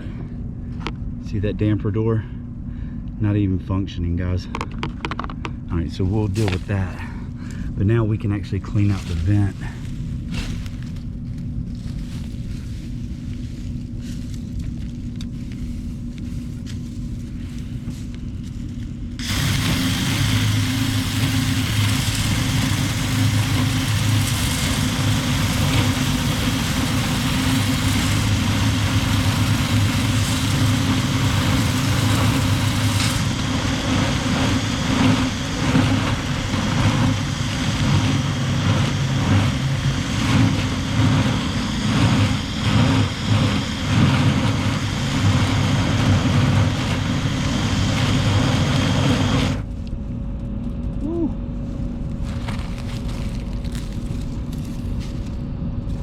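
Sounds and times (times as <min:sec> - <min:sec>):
dryer vent cleaning brush humming: 0:03.3 - 0:49.7, 0:51.6 - 0:56.0
brush scraping in duct: 0:05.9 - 0:49.7, 0:51.6 - 0:56.0.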